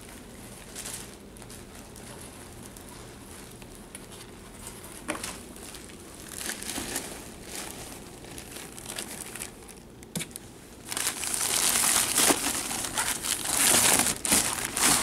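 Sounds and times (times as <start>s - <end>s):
plastic packing material crinkling: 0.0s - 15.0s.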